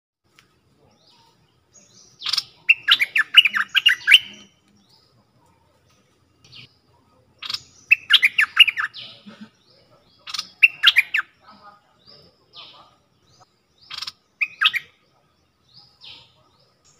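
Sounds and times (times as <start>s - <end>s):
bird chattering song: 0.3s - 16.9s.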